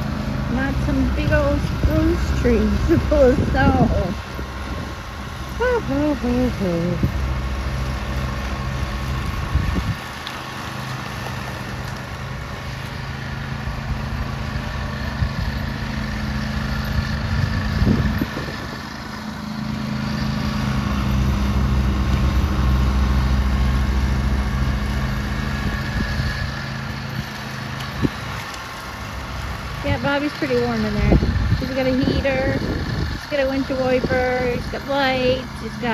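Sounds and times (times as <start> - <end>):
vehicle engine humming: 0.0 - 35.9.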